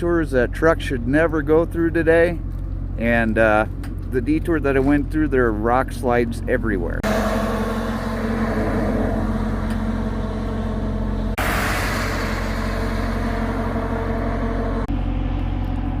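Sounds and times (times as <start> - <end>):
truck engine hum: 0.0 - 16.0.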